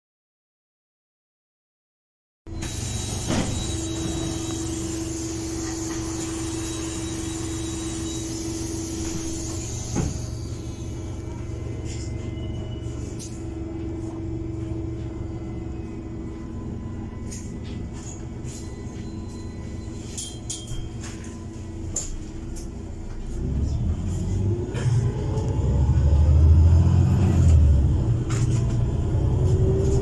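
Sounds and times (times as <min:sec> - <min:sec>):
bus engine rumble: 0:02.5 - 0:30.0.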